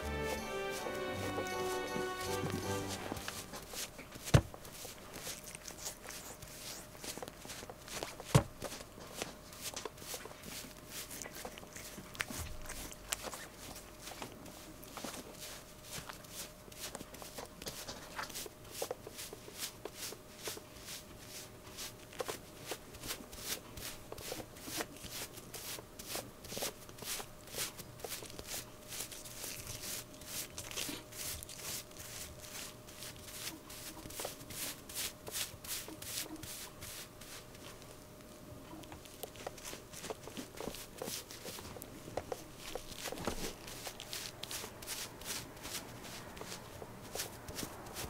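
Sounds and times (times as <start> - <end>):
brush swishing through cat fur: 0.0 - 37.9, 39.0 - 48.0
faint steady hum: 0.0 - 48.0.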